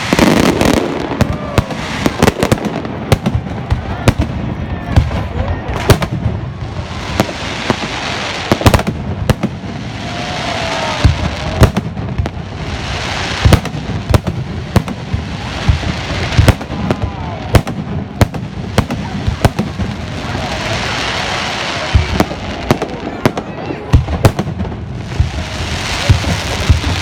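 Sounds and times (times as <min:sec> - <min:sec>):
fireworks banging: 0:00.0 - 0:27.0
fireworks crackling hiss: 0:00.0 - 0:27.0.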